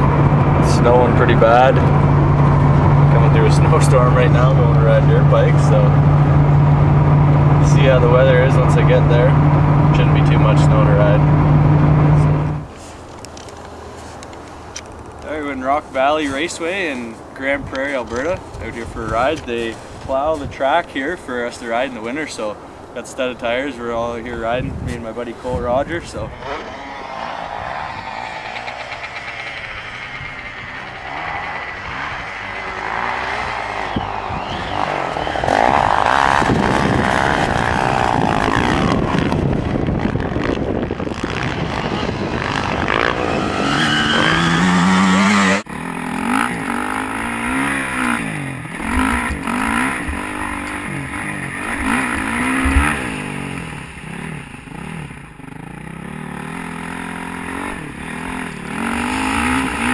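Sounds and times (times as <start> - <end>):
motocross bike engine revving: 0.0 - 12.7, 23.7 - 59.9.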